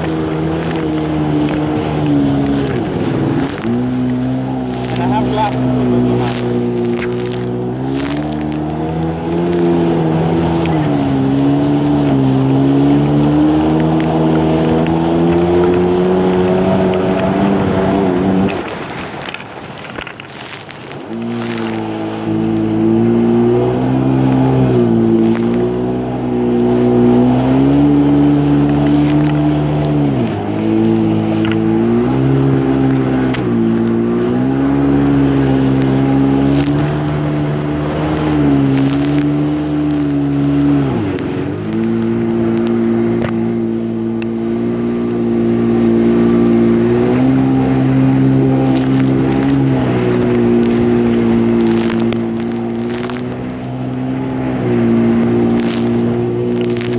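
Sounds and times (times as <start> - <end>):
jet ski engine running: 0.0 - 56.9.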